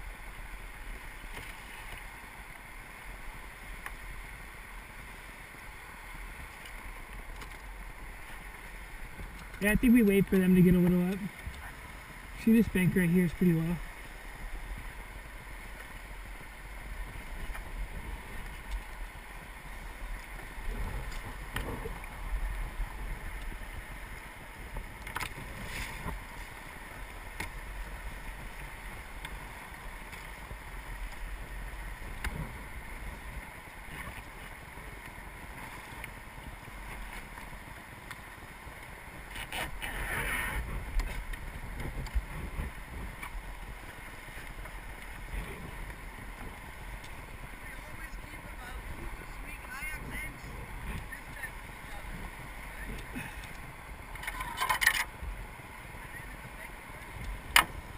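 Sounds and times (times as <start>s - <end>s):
river water rushing and splashing: 0.0s - 57.9s
wind rumbling on microphone: 0.0s - 57.9s.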